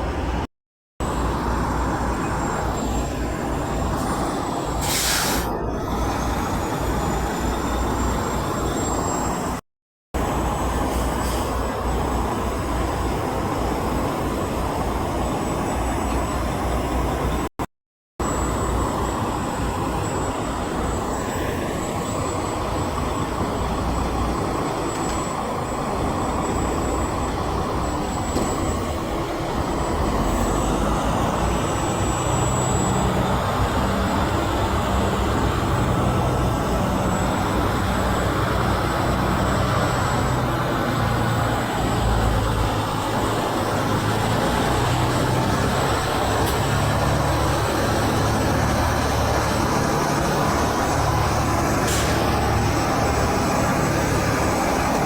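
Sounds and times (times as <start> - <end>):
heavy trucks passing: 0.0 - 9.6, 10.2 - 17.5, 18.2 - 55.0.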